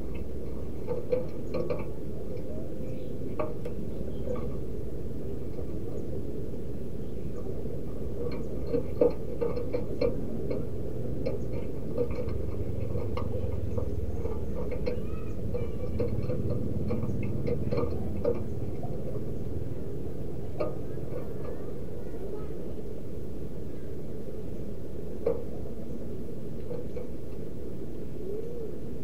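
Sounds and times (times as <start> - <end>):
doves calling: 0.0 - 29.0
low background noise: 0.0 - 29.0.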